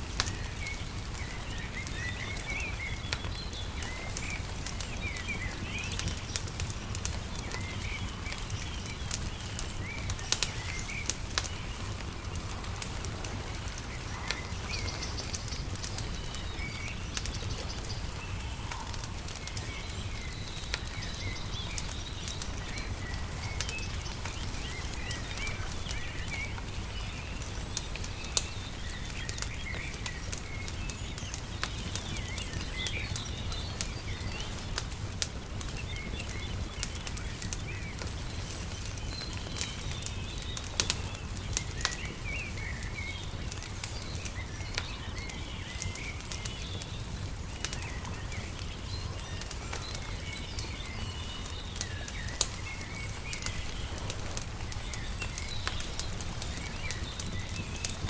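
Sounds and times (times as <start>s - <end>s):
small birds chirping: 0.0s - 58.0s
wood fire crackling: 0.0s - 58.0s
fire pops: 0.1s - 58.0s.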